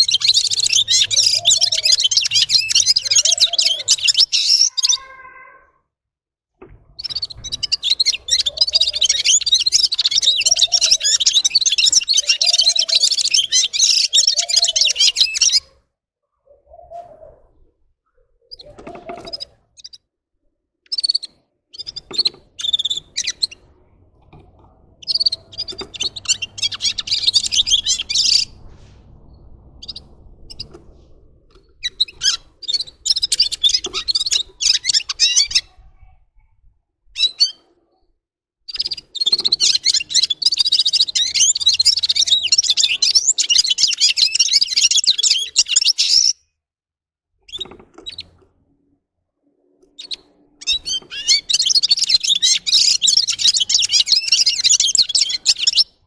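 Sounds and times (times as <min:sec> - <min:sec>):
bird twittering song: 0:00.0 - 0:05.2, 0:06.6 - 0:15.8, 0:16.4 - 0:20.1, 0:20.8 - 0:36.1, 0:38.7 - 0:46.5, 0:47.4 - 0:48.6, 0:49.6 - 0:56.0.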